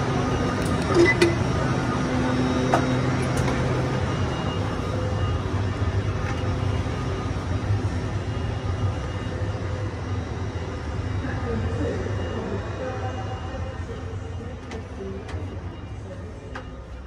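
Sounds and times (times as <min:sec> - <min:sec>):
train low hum and rumble: 0:00.0 - 0:17.0.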